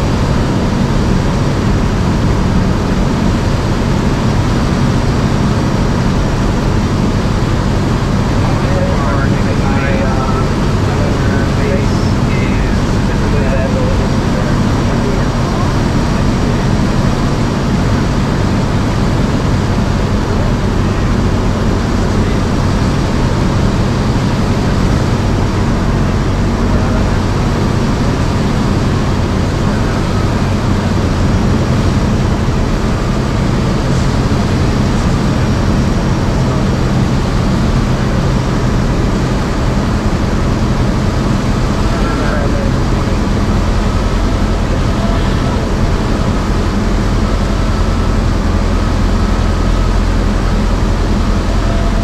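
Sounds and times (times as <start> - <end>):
airplane engine and propeller drone: 0.0 - 52.0.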